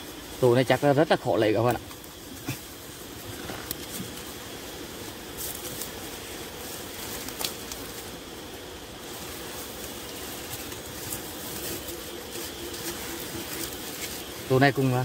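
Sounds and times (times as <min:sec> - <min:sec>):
honey bees humming: 0:00.0 - 0:15.0.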